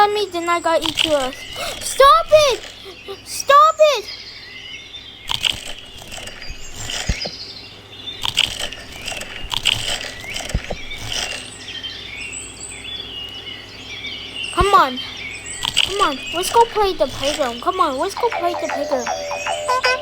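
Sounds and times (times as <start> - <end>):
birds chirping: 0.0 - 20.0
steady low hum: 0.0 - 20.0.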